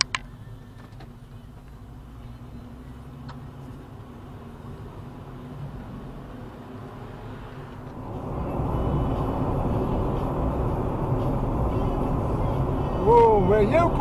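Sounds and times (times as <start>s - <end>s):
car engine hum and road rumble: 0.0s - 14.0s.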